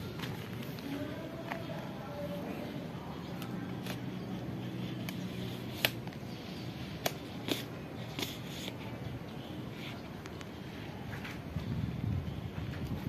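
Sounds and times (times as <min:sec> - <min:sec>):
low steady background hum: 0:00.0 - 0:13.0.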